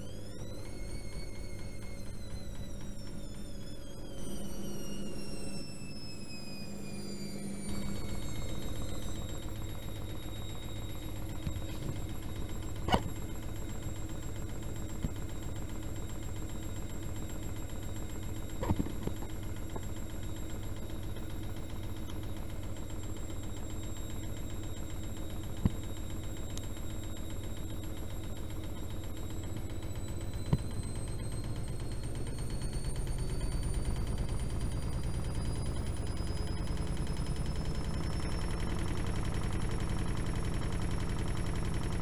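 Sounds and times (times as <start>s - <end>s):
washing machine humming: 0.0s - 42.0s.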